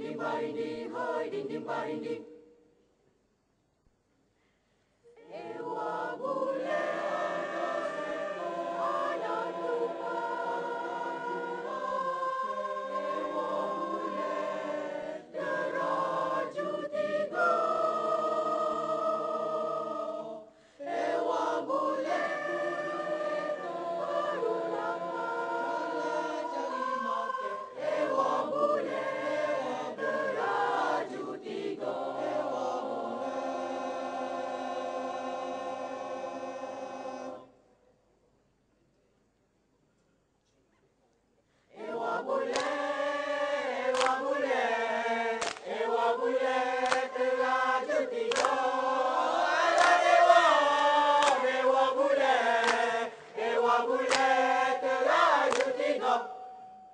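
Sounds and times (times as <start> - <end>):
mixed choir singing in harmony: 0.0 - 2.6, 5.1 - 37.6, 41.7 - 56.9.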